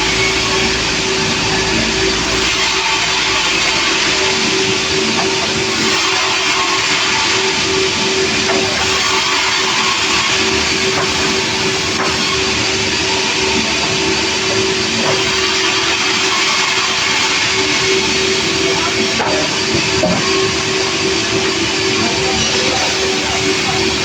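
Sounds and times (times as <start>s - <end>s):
machinery hum: 0.0s - 24.0s
sawmill machinery hiss: 0.0s - 24.0s.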